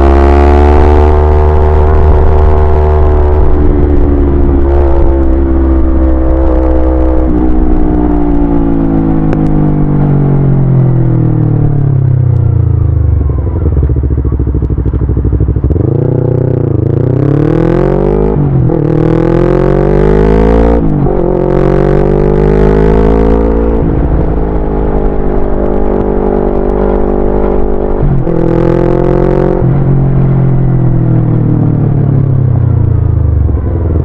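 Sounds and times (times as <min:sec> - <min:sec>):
motorcycle engine and exhaust: 0:00.0 - 0:34.0.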